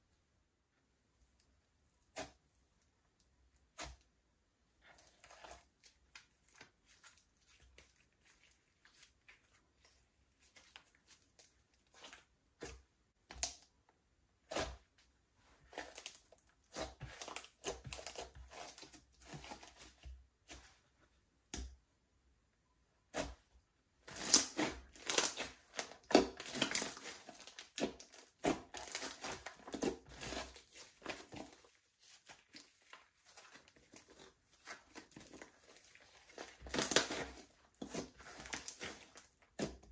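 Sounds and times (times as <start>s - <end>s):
hands squishing slime: 4.8s - 13.7s, 14.4s - 20.8s, 23.1s - 39.9s.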